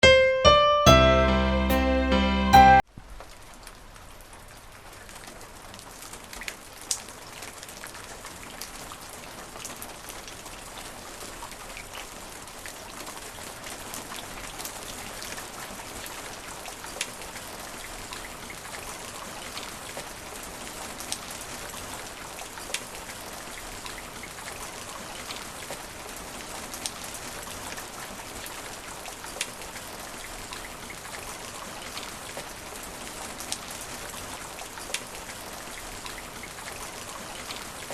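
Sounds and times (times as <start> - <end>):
rain on asphalt: 2.8 - 37.9.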